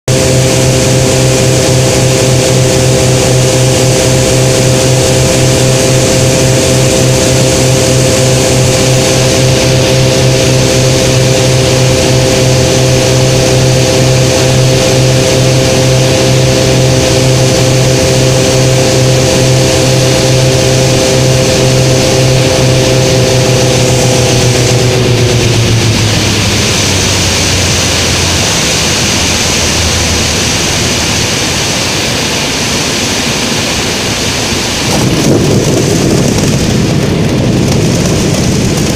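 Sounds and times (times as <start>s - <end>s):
air rushing past cabin: 0.0s - 38.9s
propeller aircraft engine droning: 0.0s - 38.9s.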